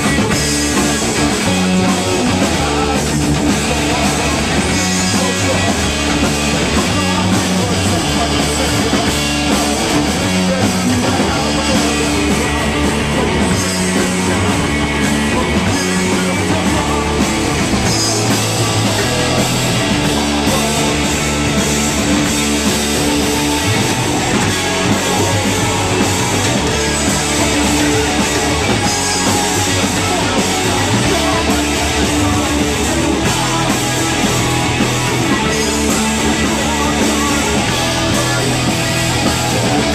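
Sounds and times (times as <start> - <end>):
drums with crashing cymbals: 0.0 - 39.9
electric bass: 0.0 - 39.9
electric guitar: 0.0 - 39.9.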